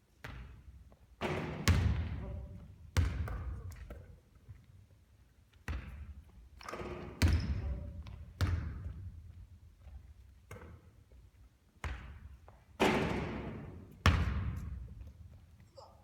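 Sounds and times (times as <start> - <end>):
basketball bouncing on gym floor: 0.2 - 4.6, 5.6 - 11.1, 11.8 - 15.4.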